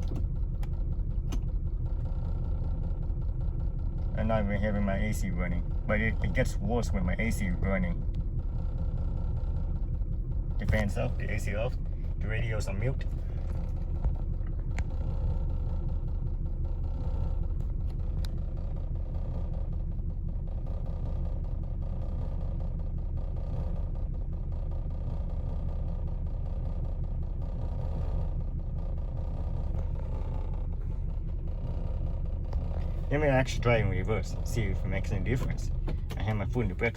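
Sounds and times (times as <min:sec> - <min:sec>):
car engine idling roughly: 0:00.0 - 0:36.9.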